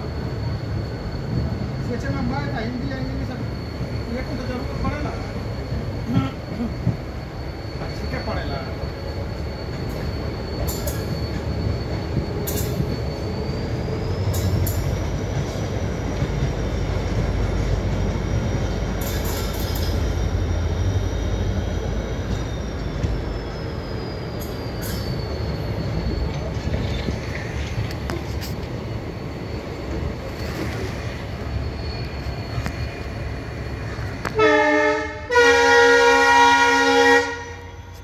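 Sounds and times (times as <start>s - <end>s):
train engine and wheels rumbling: 0.0s - 38.0s.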